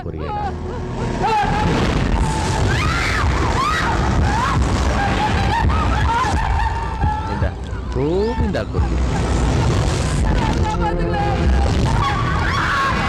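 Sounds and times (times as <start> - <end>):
deep rumbling boom: 1.2 - 13.0.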